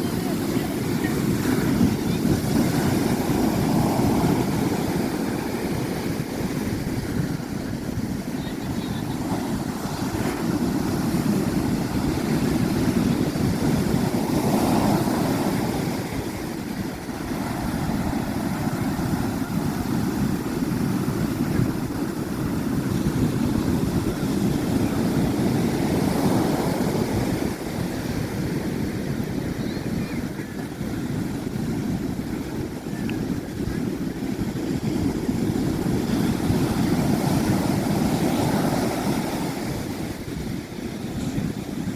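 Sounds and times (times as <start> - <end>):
sea: 0.0 - 41.9
wind: 0.0 - 41.9.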